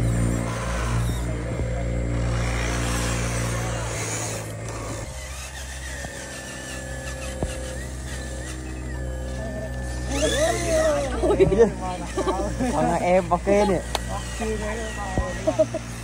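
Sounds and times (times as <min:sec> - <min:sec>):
toy vehicle motors humming: 0:00.0 - 0:16.0.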